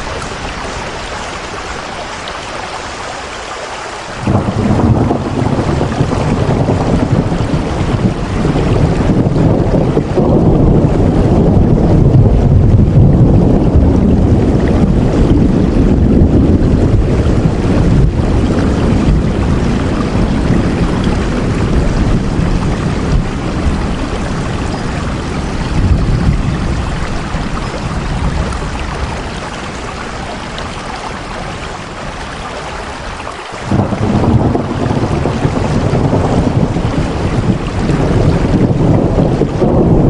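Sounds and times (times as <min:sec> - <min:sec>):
deep wind rumble: 0:00.0 - 0:40.0
heavy rain: 0:00.0 - 0:40.0.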